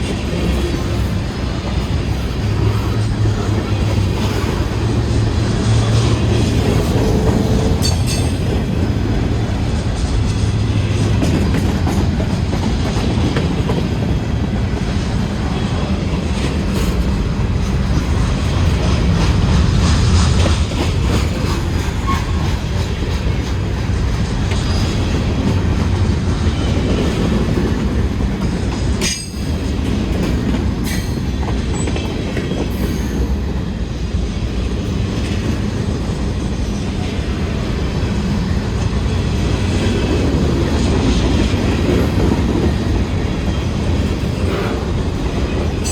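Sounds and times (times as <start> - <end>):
freight train cars rolling past: 0.0 - 45.9.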